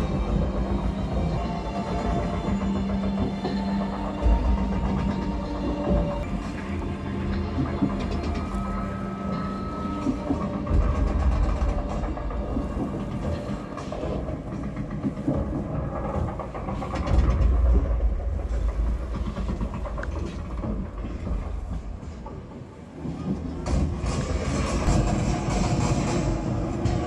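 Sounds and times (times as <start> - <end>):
train rumble: 0.0 - 27.0
train wheels clattering over rails: 0.0 - 27.0.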